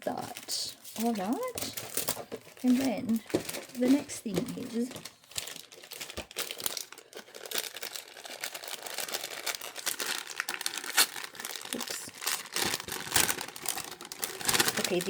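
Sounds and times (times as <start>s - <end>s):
crinkly packaging rustling: 0.0s - 15.0s.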